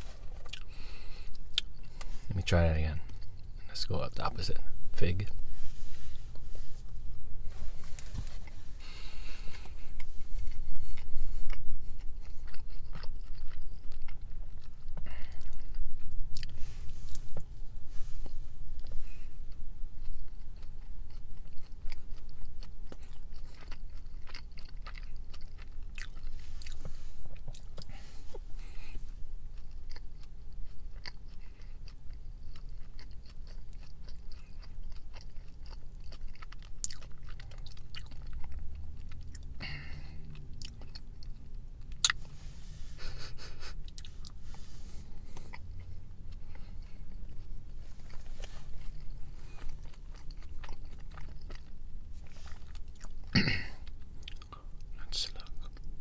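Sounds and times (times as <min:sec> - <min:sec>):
close-up chewing with mouth clicks: 0:00.2 - 0:02.4, 0:05.1 - 0:42.4, 0:43.0 - 0:56.0.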